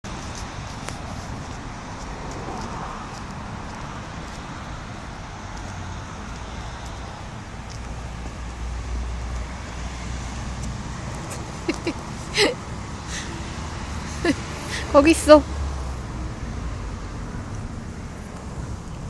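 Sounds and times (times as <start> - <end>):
low engine rumble: 0.0 - 19.0
road traffic rumble: 0.0 - 19.0.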